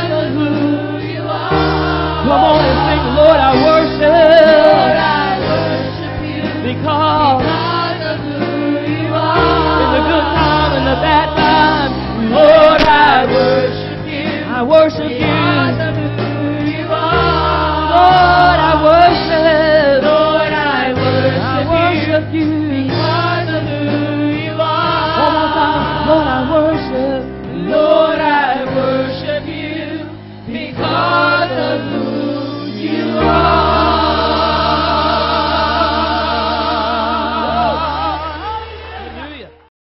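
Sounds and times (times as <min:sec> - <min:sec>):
backing band with bass: 0:00.0 - 0:39.6
choir singing gospel song: 0:00.0 - 0:39.7.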